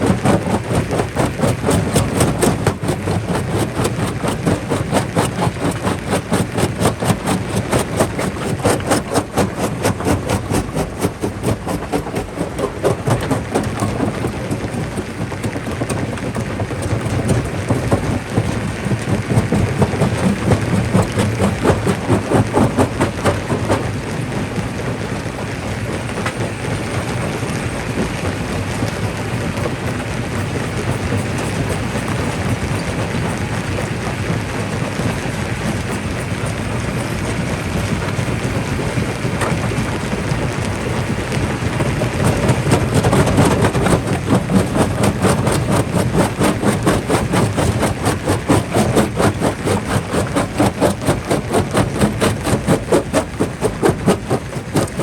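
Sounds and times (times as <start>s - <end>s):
rocks clattering and cracking: 0.0s - 24.7s, 25.8s - 55.0s.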